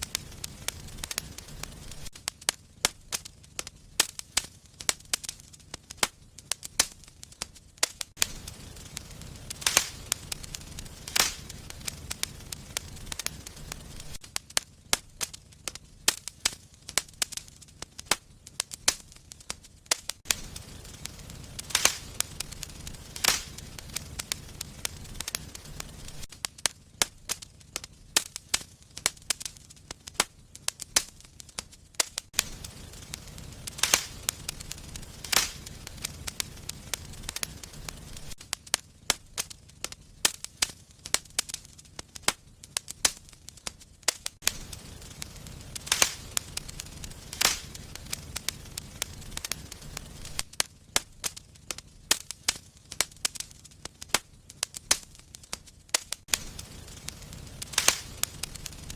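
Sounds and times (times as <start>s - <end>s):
low rumble of burning: 0.0s - 58.9s
wood fire crackling and popping: 0.0s - 58.9s.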